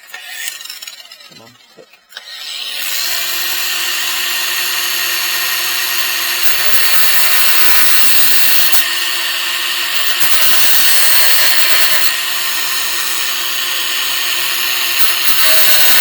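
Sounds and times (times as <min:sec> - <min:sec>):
electric power tool grinding: 0:00.0 - 0:16.0.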